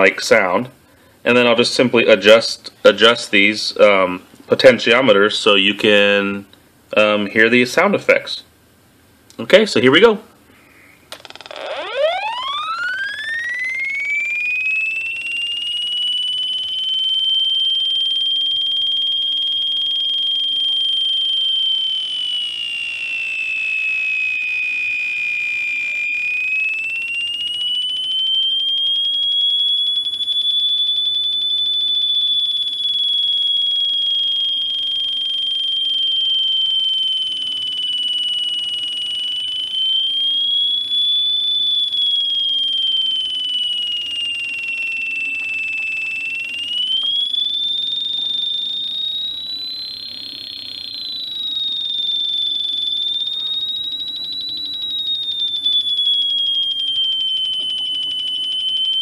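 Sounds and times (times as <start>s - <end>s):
electronic siren tone: 0.0s - 0.6s, 10.6s - 59.0s.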